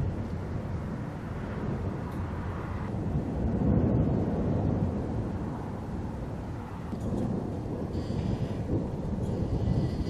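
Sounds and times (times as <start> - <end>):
thunder rumbling: 0.0 - 10.0.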